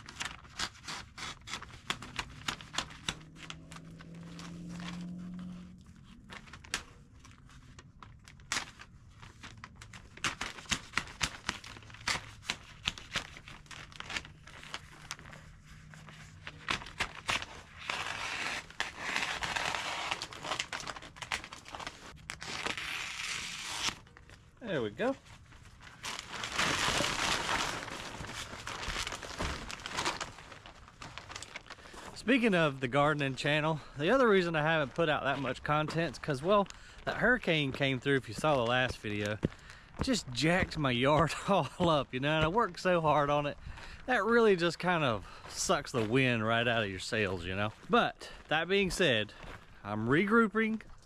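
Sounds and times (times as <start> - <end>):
roofing felt crinkling and tearing: 0.0 - 51.0.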